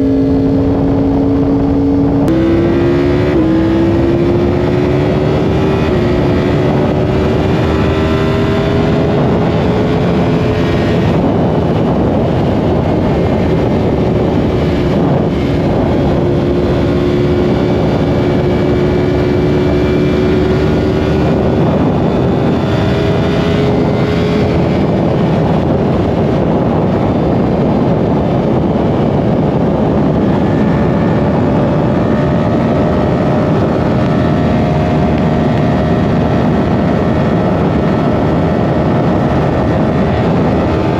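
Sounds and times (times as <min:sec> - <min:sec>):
motorcycle engine at speed: 0:00.0 - 0:40.9
wind noise: 0:00.0 - 0:40.9.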